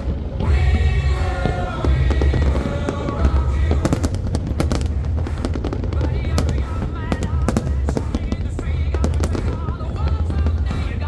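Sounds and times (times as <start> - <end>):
fireworks cracking and banging: 0.0 - 11.0
low rumble: 0.0 - 11.0
voices or music: 0.0 - 11.0.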